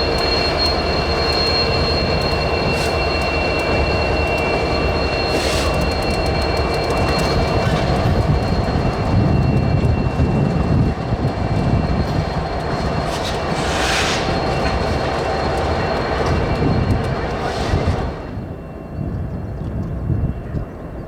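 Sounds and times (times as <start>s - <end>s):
high-pitched squeal: 0.0s - 19.1s
freight train low rumble: 0.0s - 21.0s.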